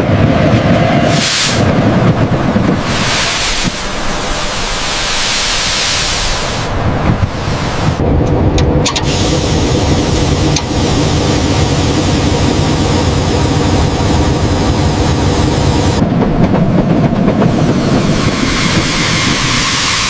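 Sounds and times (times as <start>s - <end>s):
heavy engine rumbling: 0.0s - 20.0s.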